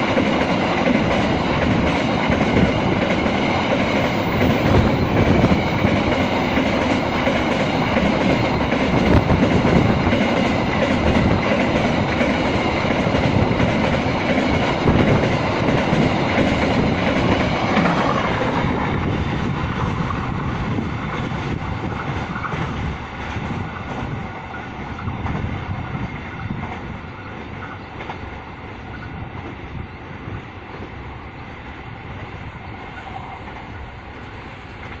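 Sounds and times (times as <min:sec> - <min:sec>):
train wheels clattering over rails: 0:00.0 - 0:31.0.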